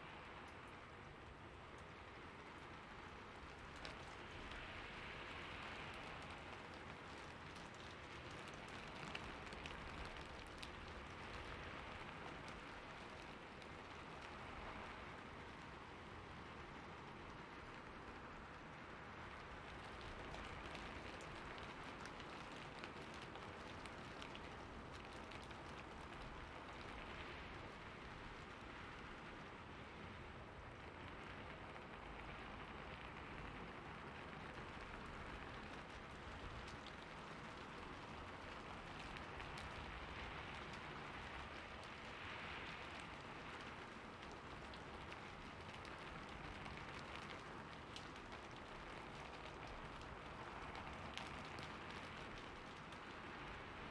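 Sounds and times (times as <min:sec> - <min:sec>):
raindrop ticks: 0:00.1 - 0:53.9.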